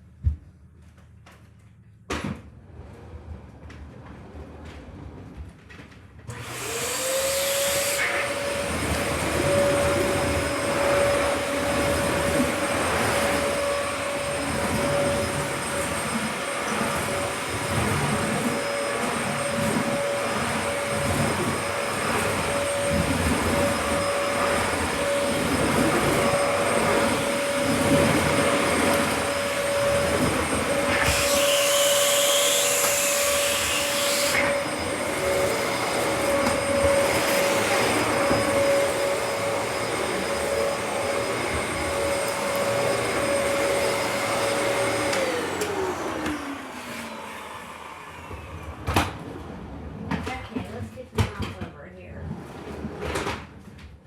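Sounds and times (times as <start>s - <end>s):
vacuum cleaner running: 6.2s - 53.6s.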